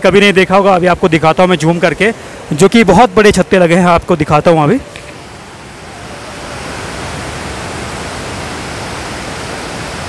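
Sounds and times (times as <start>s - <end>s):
running water: 0.0s - 10.0s.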